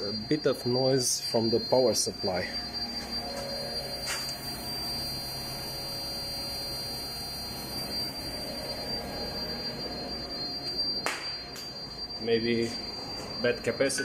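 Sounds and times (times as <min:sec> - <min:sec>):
high-pitched electrical whine: 0:00.0 - 0:14.0
low electrical hum: 0:00.0 - 0:14.0.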